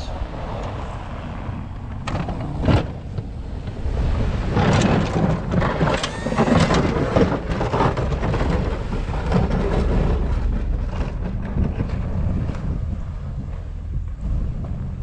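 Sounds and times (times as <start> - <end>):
truck engine rumble: 0.0 - 15.0
plow blade scraping snow: 0.3 - 15.0.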